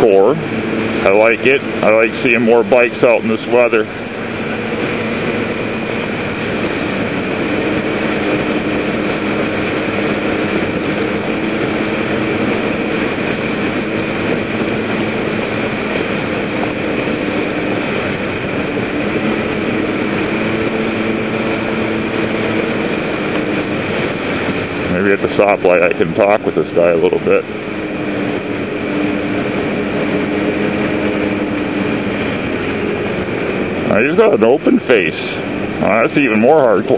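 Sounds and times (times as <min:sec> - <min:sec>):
scooter engine: 0:00.0 - 0:36.9
wind and road noise: 0:00.0 - 0:36.9.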